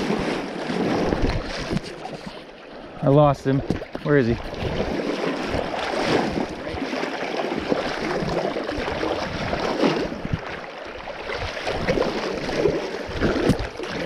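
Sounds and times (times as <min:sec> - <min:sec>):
river water rushing and splashing: 0:00.0 - 0:14.0.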